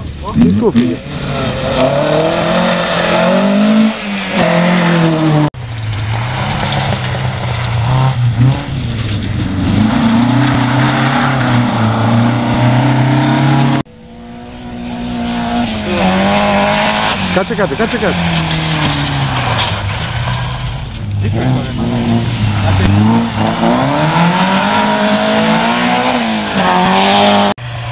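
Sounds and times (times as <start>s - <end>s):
rally car engines revving: 0.0s - 27.9s.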